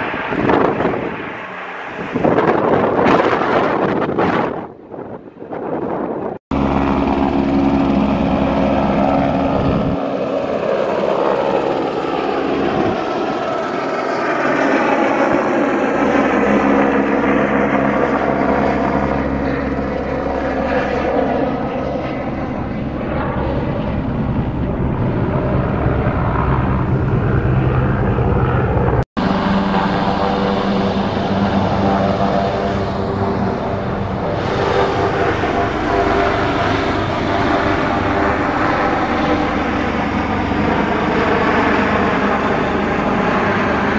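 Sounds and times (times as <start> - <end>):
helicopter flying overhead: 0.0 - 43.9
helicopter high whine: 0.0 - 43.9.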